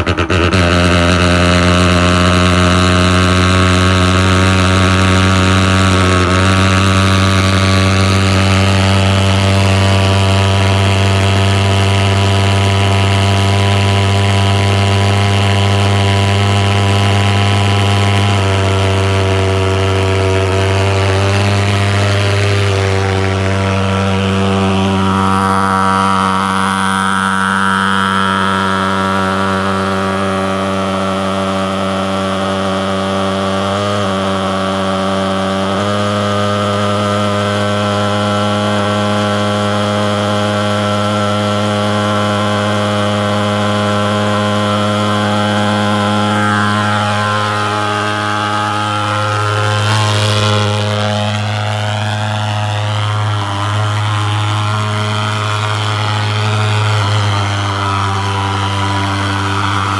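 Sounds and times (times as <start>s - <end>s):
fogging machine buzzing drone: 0.0s - 59.9s.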